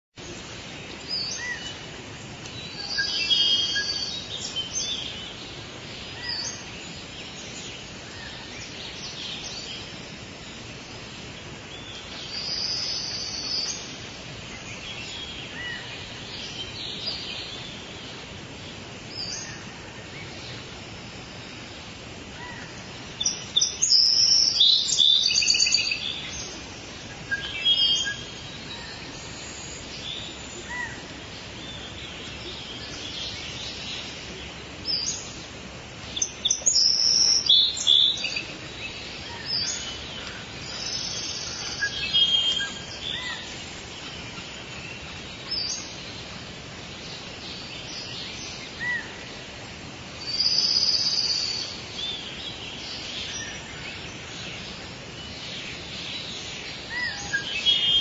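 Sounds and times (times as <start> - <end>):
birds calling and chirping: 0.2 - 58.0
steady background hiss: 0.2 - 58.0.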